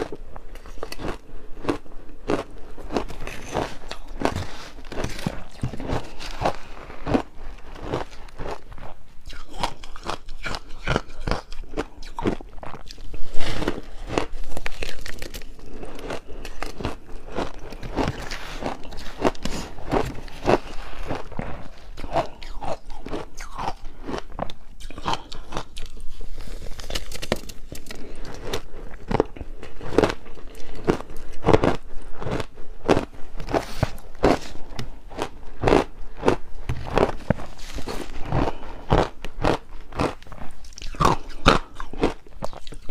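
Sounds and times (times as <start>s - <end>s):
ice crunching between teeth: 0.0s - 42.9s.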